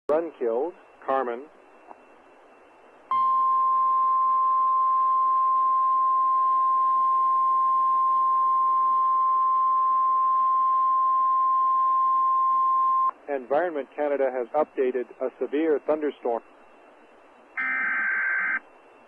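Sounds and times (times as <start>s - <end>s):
steady warning alarm tone: 0.1s - 19.0s.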